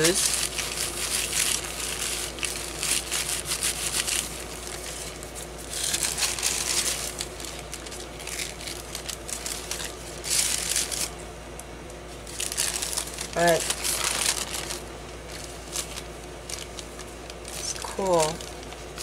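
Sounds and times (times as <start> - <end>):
paper crinkling and rustling: 0.0 - 11.2, 12.2 - 19.0.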